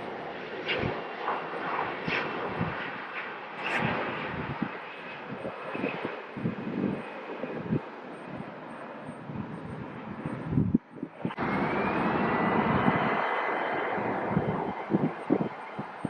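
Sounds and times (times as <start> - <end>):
airplane engine rushing: 0.0 - 16.0.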